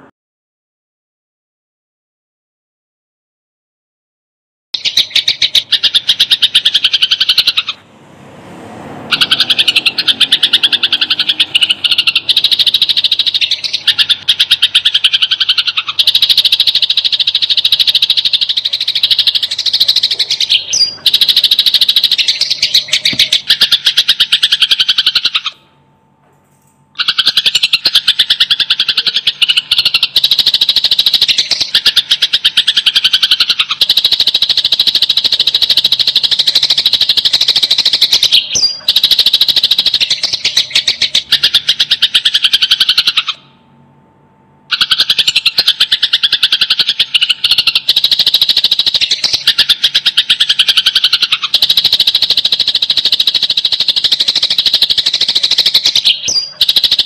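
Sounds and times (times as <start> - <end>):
sparrows chirping harshly: 4.8 - 25.6, 27.0 - 43.4, 44.7 - 57.0.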